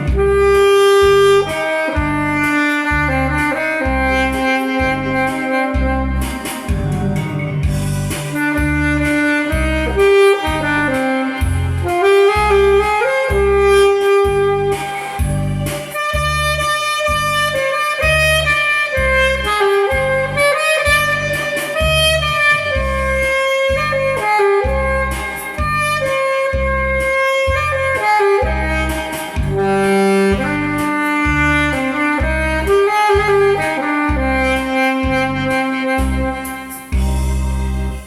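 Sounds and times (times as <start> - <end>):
backing track with bass beat: 0.0 - 38.0
saxophone melody: 0.0 - 38.0.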